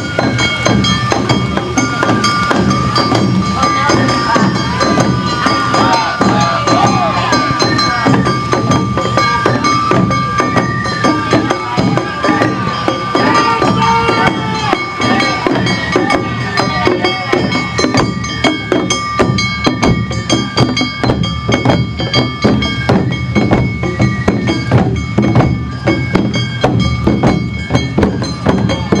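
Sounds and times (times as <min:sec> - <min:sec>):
drums struck in quick rhythm: 0:00.0 - 0:29.0
high held melody tones: 0:00.0 - 0:29.0.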